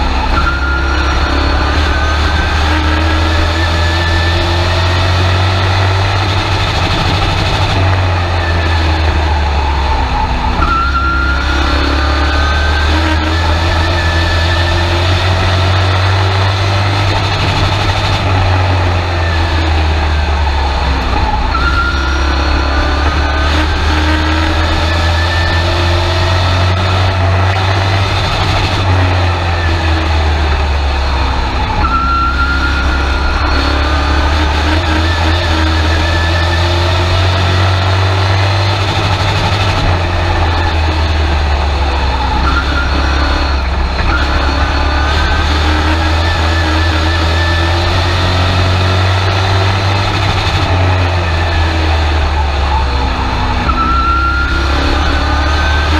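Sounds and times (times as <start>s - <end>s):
truck engine revving: 0.0s - 55.9s.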